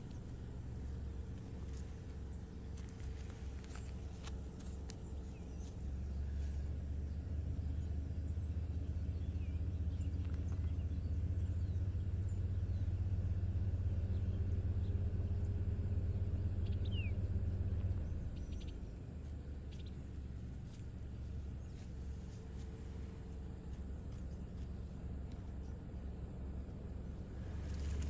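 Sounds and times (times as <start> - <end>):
faint bird chirp: 0.0 - 26.2
steady low rumble: 0.0 - 28.0.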